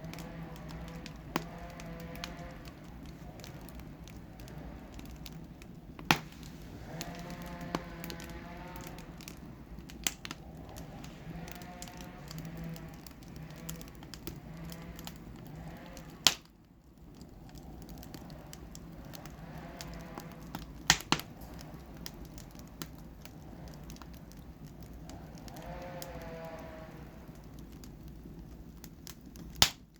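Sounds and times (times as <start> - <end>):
fire popping: 0.0 - 29.9
wood fire crackling: 0.0 - 29.9.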